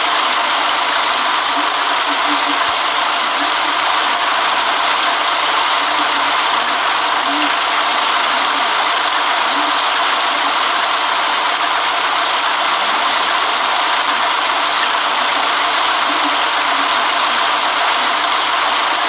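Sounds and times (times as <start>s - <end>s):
bus engine and road noise: 0.0s - 19.0s.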